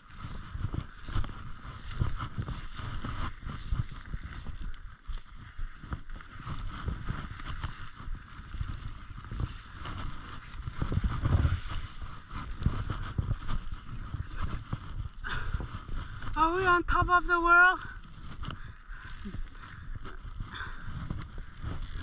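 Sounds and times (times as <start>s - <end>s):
low microphone rumble: 0.0s - 22.0s
snowshoe footsteps crunching snow: 0.0s - 22.0s.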